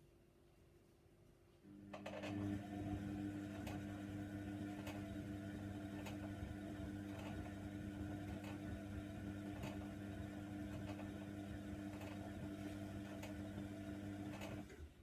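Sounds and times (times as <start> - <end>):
washer dryer motor hum: 1.7 - 15.0.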